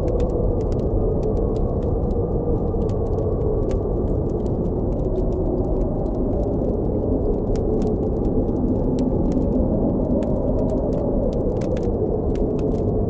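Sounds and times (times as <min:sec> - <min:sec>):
blizzard wind rushing: 0:00.0 - 0:13.0
campfire crackling and popping: 0:00.0 - 0:13.0.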